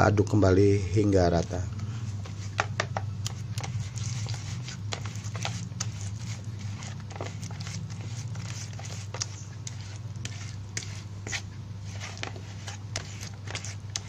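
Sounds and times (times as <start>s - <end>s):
steady low hum: 0.0s - 14.0s
spoon scraping plastic bowl: 1.4s - 14.0s.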